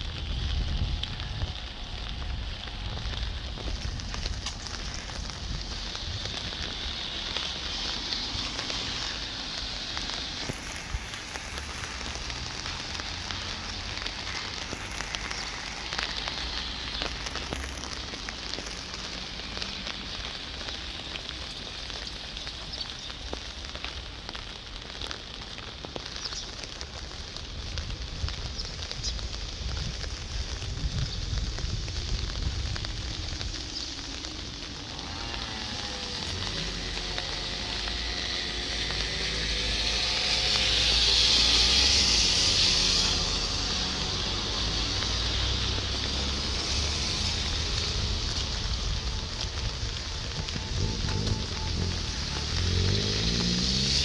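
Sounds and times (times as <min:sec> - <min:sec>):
rain drops pattering: 0:00.0 - 0:54.0.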